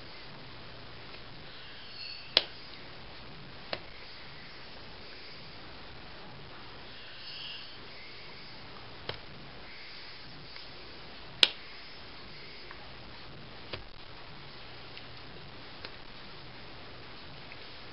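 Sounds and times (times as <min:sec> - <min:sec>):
faint hiss: 0:00.0 - 0:17.9.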